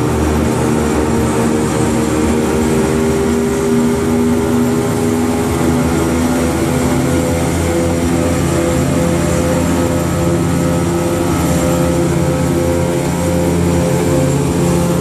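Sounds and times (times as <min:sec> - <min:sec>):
outboard engine running: 0:00.0 - 0:15.0.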